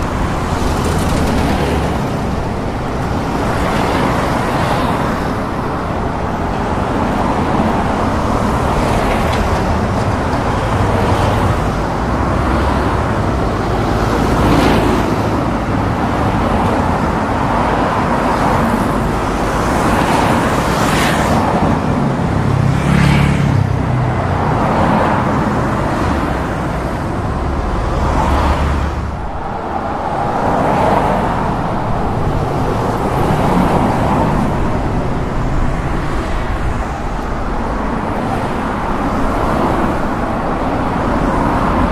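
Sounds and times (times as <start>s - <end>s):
cars passing: 0.0s - 41.9s
road traffic rumble: 0.0s - 41.9s.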